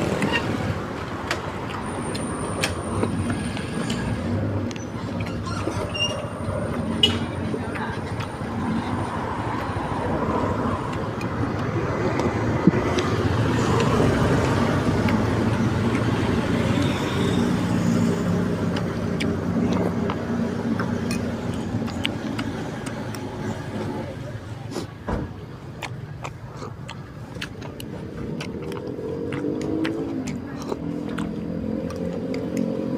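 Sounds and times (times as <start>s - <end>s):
street noise: 0.0s - 32.9s
vehicle engine passing: 0.0s - 32.9s.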